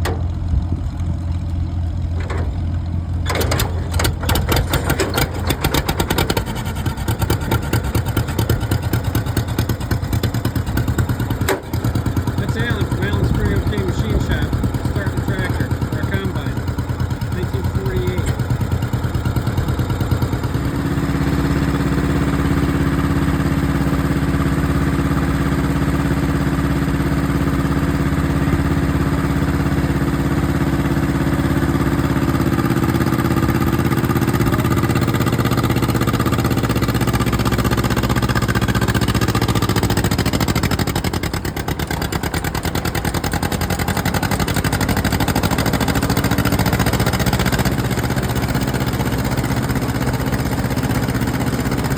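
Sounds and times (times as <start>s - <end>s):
engine running: 0.0s - 51.9s.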